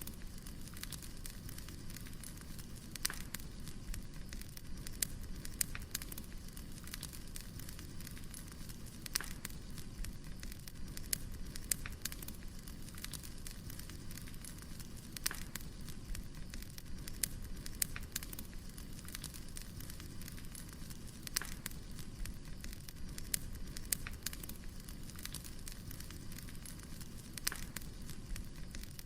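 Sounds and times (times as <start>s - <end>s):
firewood popping and crackling: 0.0s - 29.0s
low rumble of flames: 0.0s - 29.0s.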